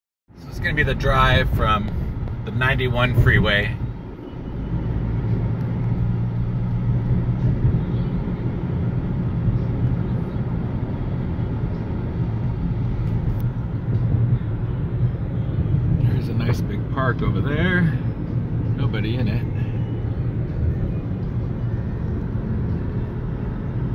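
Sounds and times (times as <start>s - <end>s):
car cabin road rumble: 0.3s - 23.9s.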